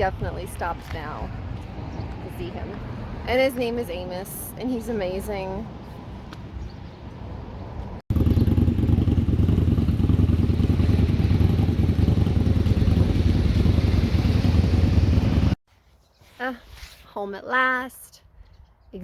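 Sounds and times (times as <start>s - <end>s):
vehicle road and engine rumble: 0.0s - 15.6s.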